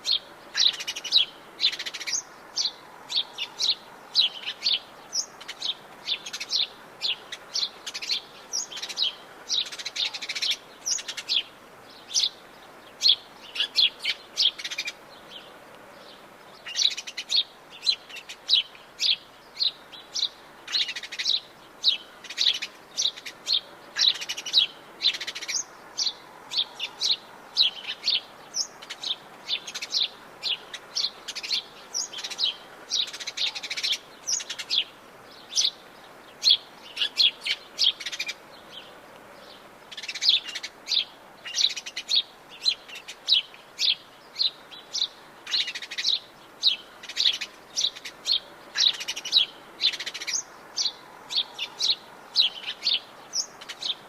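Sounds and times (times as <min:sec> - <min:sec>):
wild birds chirping: 0:00.0 - 0:54.0.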